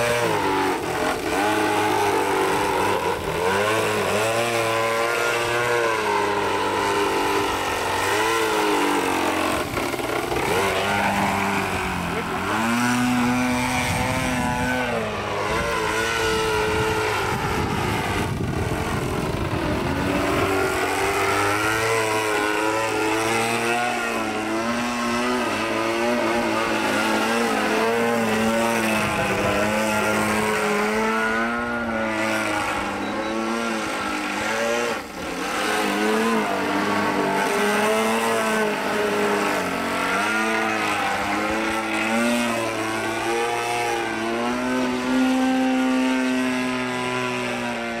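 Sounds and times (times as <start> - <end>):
model plane engine and propeller: 0.0 - 48.0.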